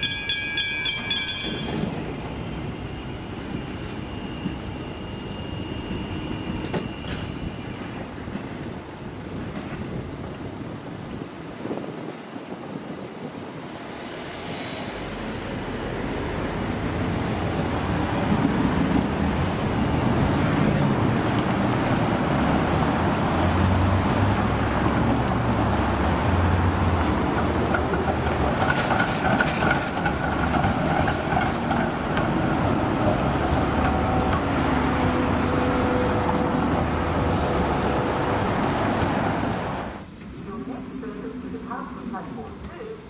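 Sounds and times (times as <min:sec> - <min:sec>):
tram running over level crossing: 0:00.0 - 0:42.7
road traffic: 0:00.0 - 0:43.0.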